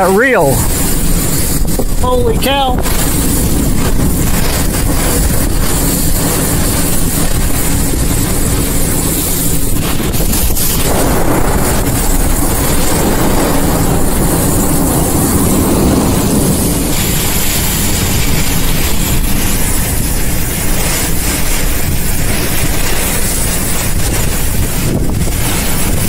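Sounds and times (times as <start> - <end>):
deep rumble: 0.0 - 26.0
heavy rain battering a car: 0.0 - 26.0
storm wind: 0.0 - 26.0.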